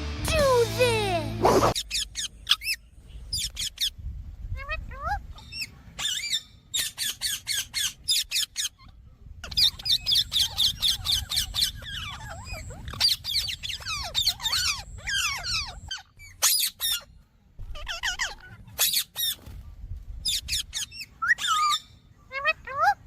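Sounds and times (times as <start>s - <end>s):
parakeet shrill squawks: 1.4s - 4.0s, 4.6s - 17.1s, 17.7s - 19.4s, 20.2s - 23.0s.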